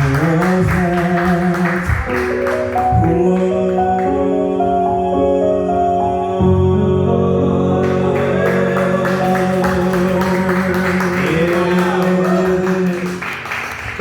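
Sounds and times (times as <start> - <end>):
singing voices: 0.0 - 14.0.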